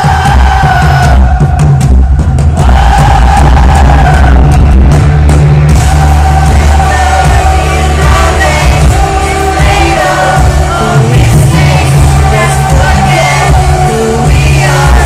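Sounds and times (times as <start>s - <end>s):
lead vocal singing: 0.0s - 4.8s, 5.6s - 15.0s
live pop-rock band playing: 0.0s - 15.0s.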